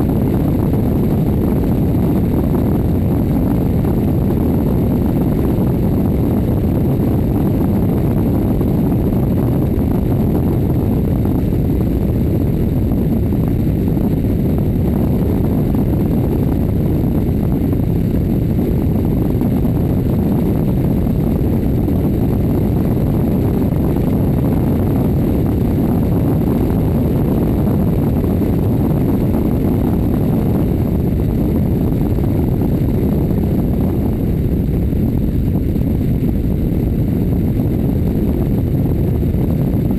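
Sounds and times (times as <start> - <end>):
aircraft wind and engine rush: 0.0 - 39.9.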